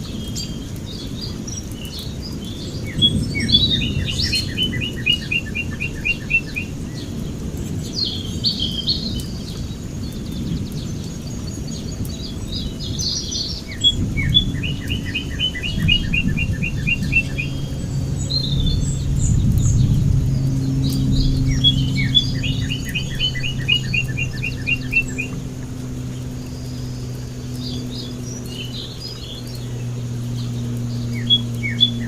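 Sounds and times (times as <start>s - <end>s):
birds chirping and calling: 0.0s - 32.0s
low background rumble: 0.0s - 32.0s
low hum: 0.0s - 32.0s.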